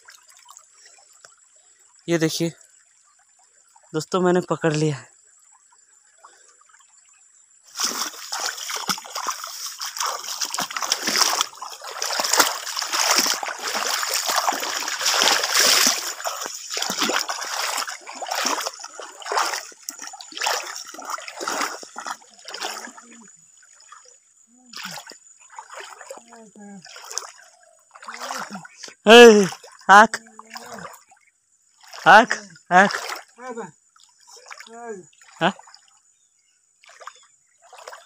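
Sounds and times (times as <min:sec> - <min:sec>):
footsteps wading through stream: 0:00.0 - 0:04.8, 0:05.5 - 0:33.4, 0:34.0 - 0:36.0, 0:36.8 - 0:38.0
water splashing and sloshing: 0:00.0 - 0:38.0.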